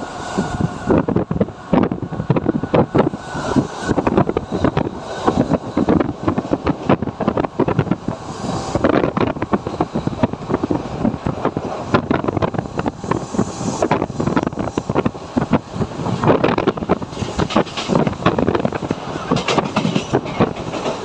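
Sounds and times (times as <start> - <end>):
train wheels clattering: 0.0 - 21.0
wind noise: 0.0 - 21.0.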